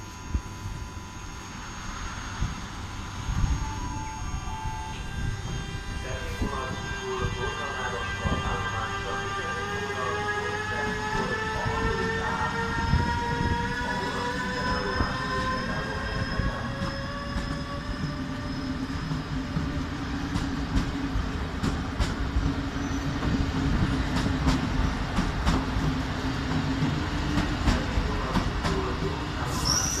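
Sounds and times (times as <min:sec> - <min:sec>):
locomotive high whine: 0:00.0 - 0:30.0
train wheels rumbling on rail: 0:01.8 - 0:30.0.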